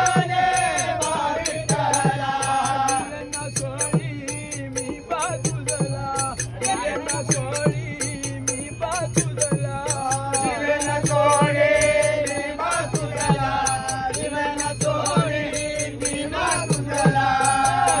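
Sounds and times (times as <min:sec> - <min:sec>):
brass hand cymbals ringing: 0:00.0 - 0:18.0
men singing together: 0:00.0 - 0:18.0.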